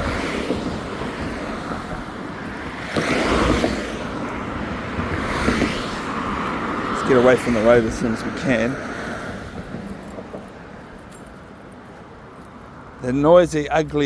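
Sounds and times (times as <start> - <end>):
road traffic: 0.0 - 14.0
vehicle passing: 0.0 - 14.0.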